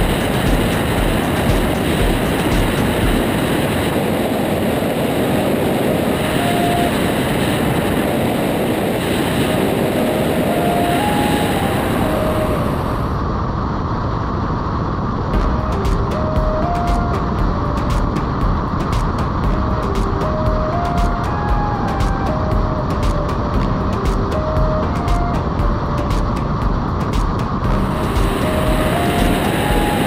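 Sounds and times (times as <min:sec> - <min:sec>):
aircraft engine drone and airflow: 0:00.0 - 0:30.0
wind on microphone: 0:00.0 - 0:30.0.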